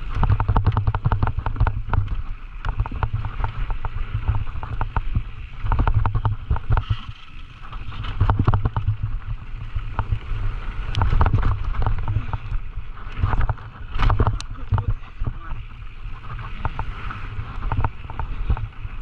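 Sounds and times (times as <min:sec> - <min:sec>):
mountain bike rattling on rough trail: 0:00.0 - 0:19.0
wind buffeting microphone: 0:00.0 - 0:19.0.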